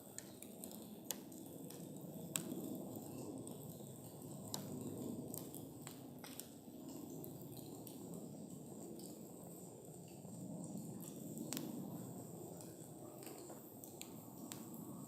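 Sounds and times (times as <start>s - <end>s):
campfire crackles and pops: 0.0s - 15.0s
rush of campfire flame: 0.0s - 15.0s.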